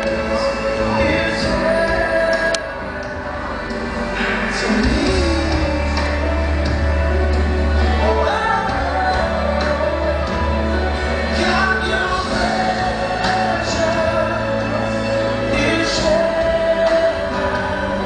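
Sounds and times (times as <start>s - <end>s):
band with steady bass: 0.0s - 18.0s
person singing: 0.0s - 18.0s.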